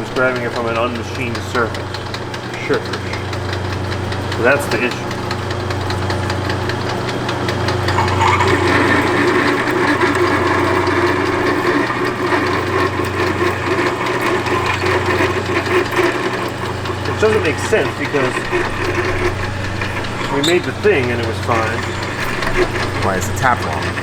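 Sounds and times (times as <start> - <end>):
metal lathe motor hum: 0.0 - 24.0
rough rattling: 0.0 - 24.0.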